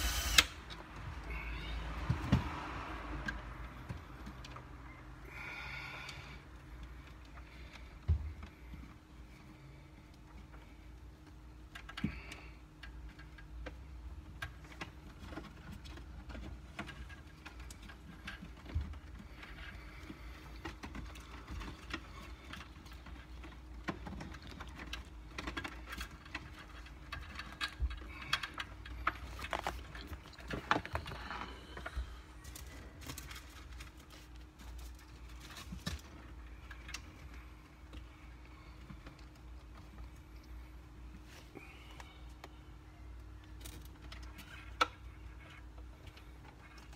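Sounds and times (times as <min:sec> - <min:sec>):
faint steady hum: 0:00.0 - 0:46.9
cables and plastic parts clicking: 0:06.0 - 0:41.2, 0:41.9 - 0:46.9.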